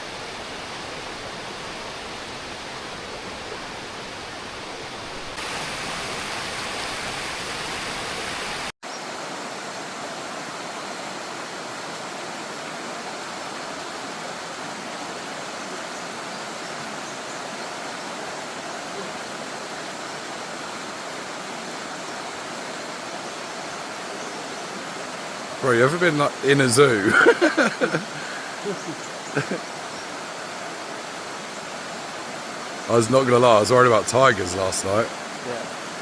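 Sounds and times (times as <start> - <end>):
jungle river flowing: 0.0 - 36.0.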